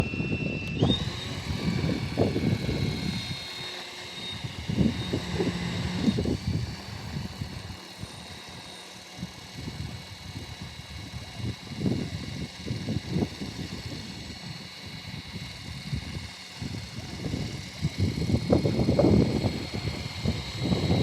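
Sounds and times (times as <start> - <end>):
rc helicopter high-pitched whine: 0.0 - 21.0
low gusty buffeting: 0.3 - 8.6, 9.2 - 21.0.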